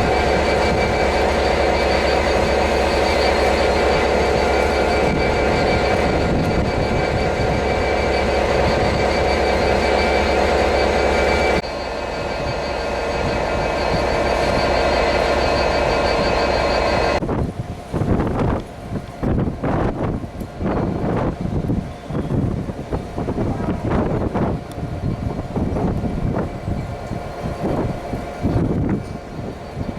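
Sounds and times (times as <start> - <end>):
high whine: 0.0 - 17.3, 22.8 - 29.9
train rail and wheel noise: 0.0 - 29.9.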